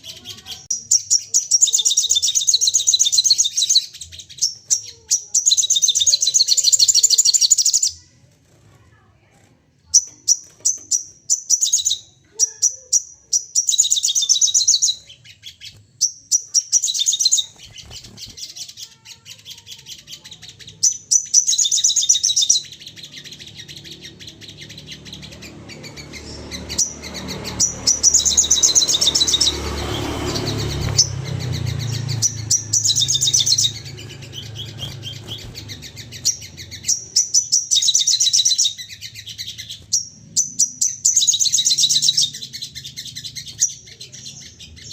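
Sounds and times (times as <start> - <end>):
bird chirping trills: 0.0 - 8.2, 9.9 - 44.9.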